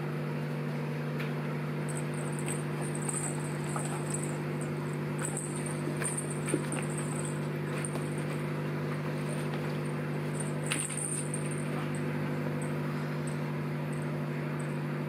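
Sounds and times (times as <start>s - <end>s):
electrical motor hum: 0.0s - 15.0s.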